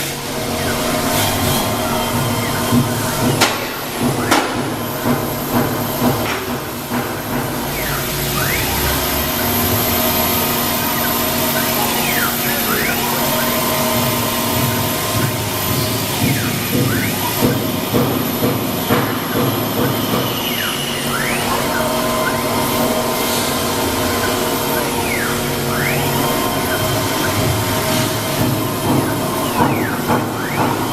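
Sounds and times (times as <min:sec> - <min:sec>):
wood router motor whining: 0:00.0 - 0:30.9.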